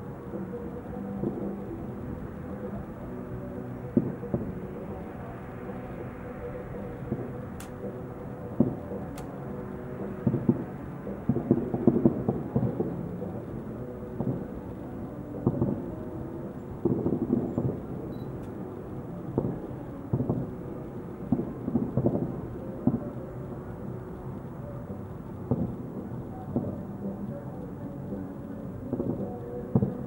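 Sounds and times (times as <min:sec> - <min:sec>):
distant fireworks booms: 0:03.8 - 0:27.4, 0:28.1 - 0:30.0.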